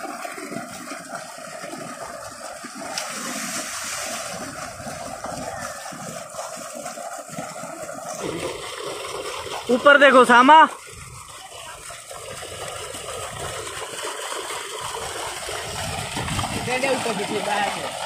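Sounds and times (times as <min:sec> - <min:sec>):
water jet splashing into tank: 0:00.0 - 0:18.0.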